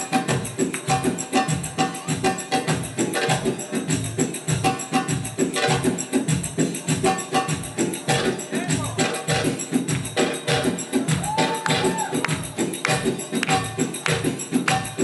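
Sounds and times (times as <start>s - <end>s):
drum beats: 0.0s - 15.0s
tambourine jingles: 0.0s - 15.0s.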